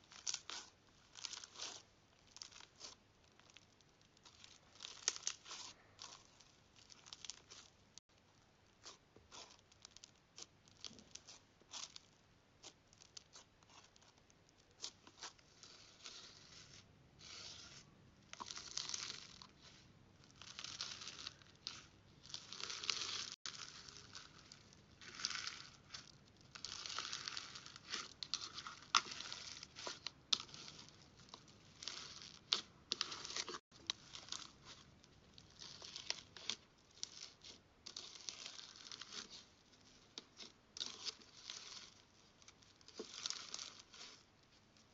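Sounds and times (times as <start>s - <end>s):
slime crackling and popping: 0.0s - 44.2s.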